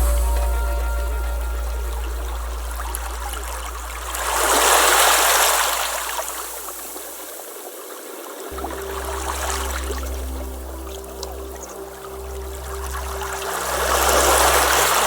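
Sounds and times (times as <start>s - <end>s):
low held music tone: 0.0s - 7.3s, 8.5s - 15.0s
rushing water: 0.0s - 15.0s.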